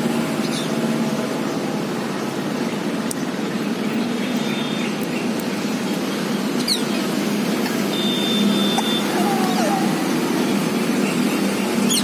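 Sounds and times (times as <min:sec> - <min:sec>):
city traffic hum: 0:00.0 - 0:12.0.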